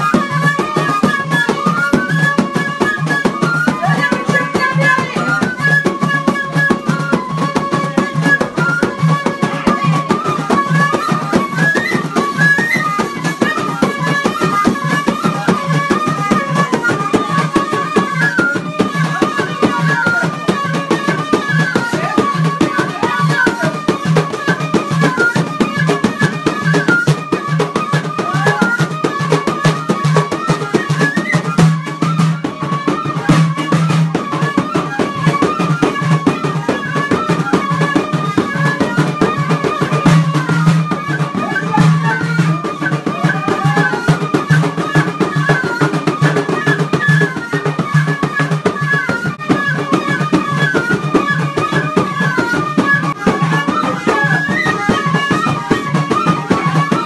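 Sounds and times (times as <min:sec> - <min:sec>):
flute melody: 0:00.0 - 0:57.0
frame drums beating: 0:00.0 - 0:57.0.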